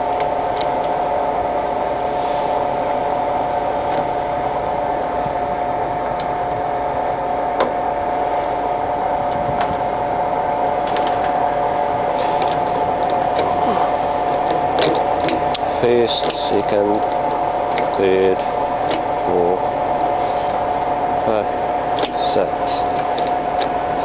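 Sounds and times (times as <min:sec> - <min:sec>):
lathe gear whine: 0:00.0 - 0:24.0.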